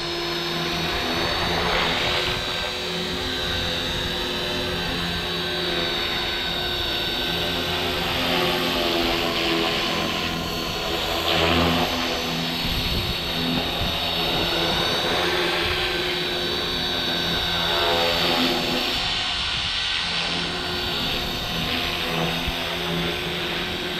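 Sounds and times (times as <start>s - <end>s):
rc helicopter whine: 0.0s - 23.9s.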